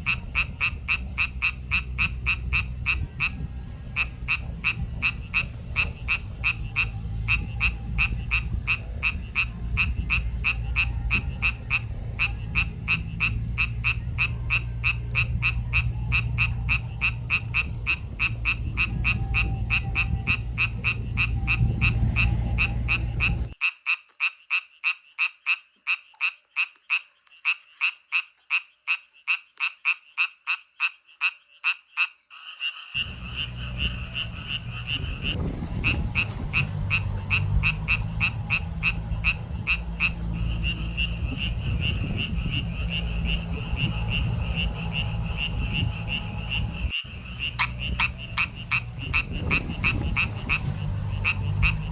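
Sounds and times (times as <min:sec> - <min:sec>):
low rumble: 0:00.0 - 0:23.6, 0:33.0 - 0:51.9
frogs croaking: 0:00.0 - 0:51.9
frogs trilling: 0:00.0 - 0:51.9.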